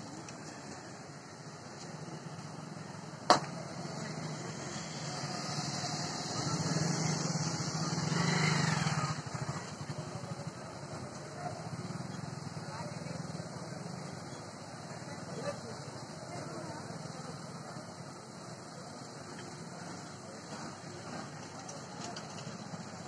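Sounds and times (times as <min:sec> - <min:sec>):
motorcycles passing: 0:00.0 - 0:23.0
vehicle engines running: 0:00.0 - 0:23.0.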